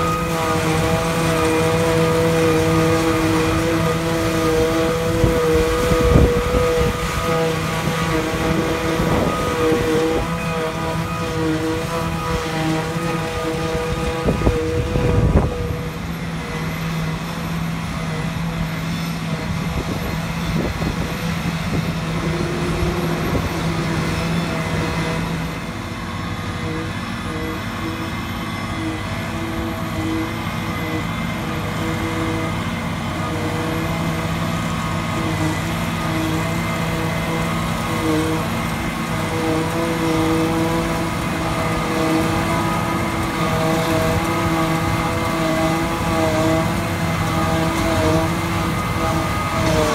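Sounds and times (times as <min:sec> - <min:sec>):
forage harvester chopping grass: 0:00.0 - 0:49.9
tractor engine: 0:00.0 - 0:49.9.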